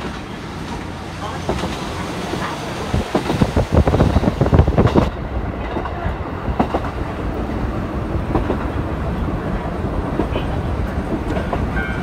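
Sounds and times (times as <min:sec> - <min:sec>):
railcar rumble: 0:00.0 - 0:12.0.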